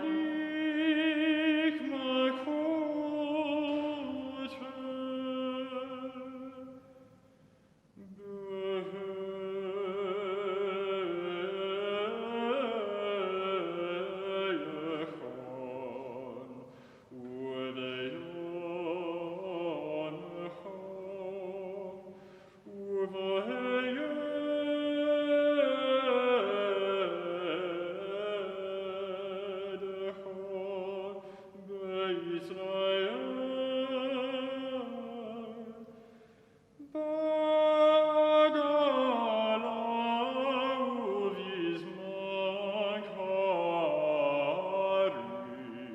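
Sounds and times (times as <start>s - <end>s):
voices singing sacred music: 0.0s - 7.1s, 8.0s - 36.1s, 36.8s - 45.9s.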